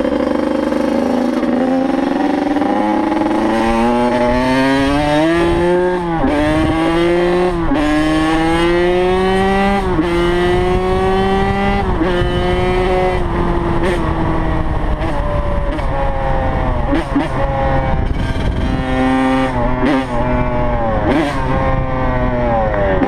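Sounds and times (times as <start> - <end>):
dirt bike engine shifting gears: 0.0 - 23.0.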